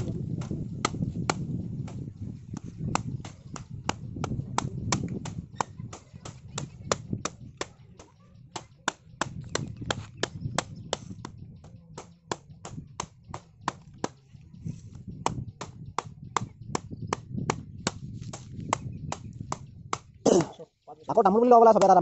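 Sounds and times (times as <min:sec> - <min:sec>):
wooden stick knocking on stakes: 0:00.0 - 0:07.7, 0:08.6 - 0:14.2, 0:15.2 - 0:20.6, 0:21.7 - 0:22.0.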